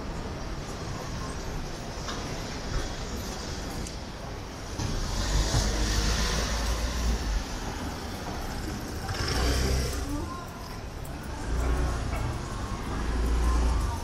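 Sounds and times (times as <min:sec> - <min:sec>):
cars passing: 0:01.8 - 0:14.0.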